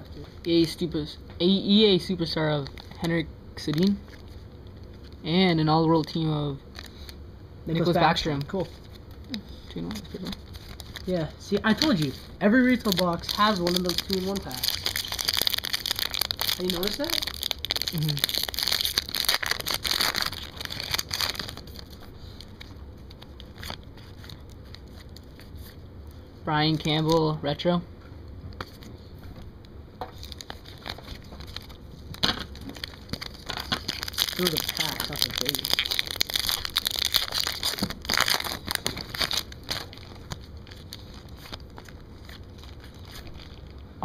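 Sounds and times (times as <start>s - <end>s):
card wrappers crinkling: 1.7s - 25.8s, 30.0s - 43.9s.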